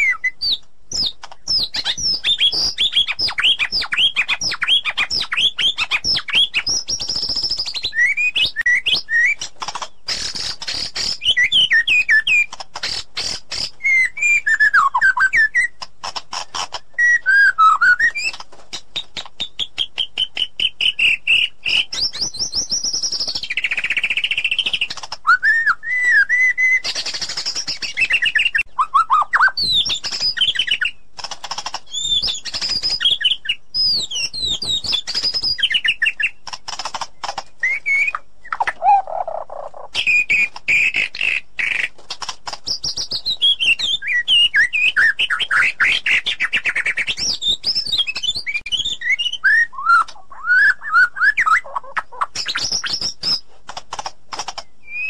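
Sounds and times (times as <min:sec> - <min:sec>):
songbird singing varied song: 0:00.0 - 0:31.1, 0:31.8 - 0:53.4, 0:54.6 - 0:55.0.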